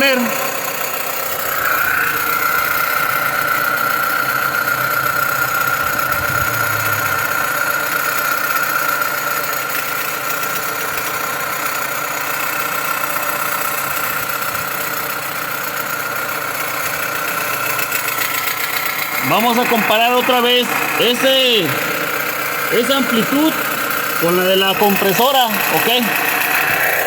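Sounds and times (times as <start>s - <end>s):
engine idling: 0.0s - 27.0s
high-pitched alternator whine: 0.0s - 27.0s.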